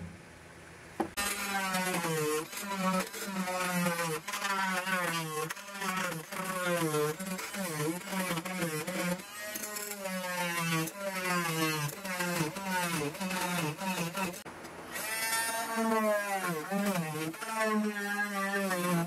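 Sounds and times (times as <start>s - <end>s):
multi-tool cutting fiberglass: 1.0s - 19.0s.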